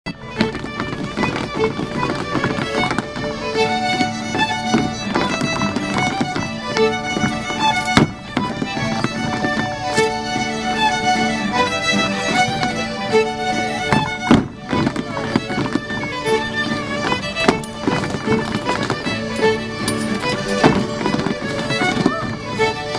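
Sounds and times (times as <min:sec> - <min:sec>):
fiddle playing lively dance tune: 0:00.1 - 0:22.9.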